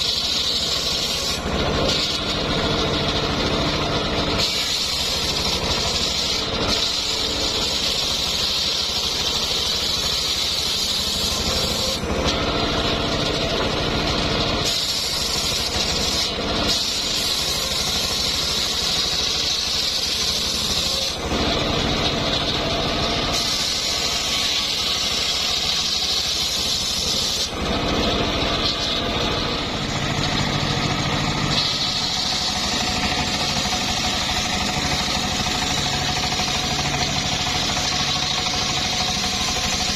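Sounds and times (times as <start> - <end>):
circular saw cutting log: 0.0 - 39.9.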